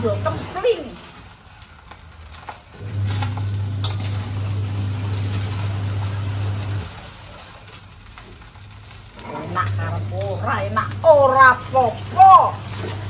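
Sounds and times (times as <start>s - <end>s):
low mechanical hum: 0.0s - 1.7s, 2.6s - 13.0s
rice sizzling in a wok: 0.0s - 13.0s.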